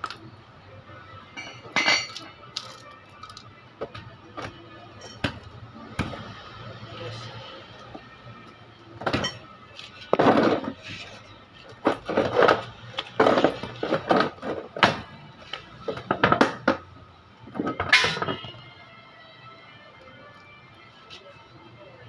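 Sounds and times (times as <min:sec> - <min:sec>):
faint music: 0:00.0 - 0:22.0.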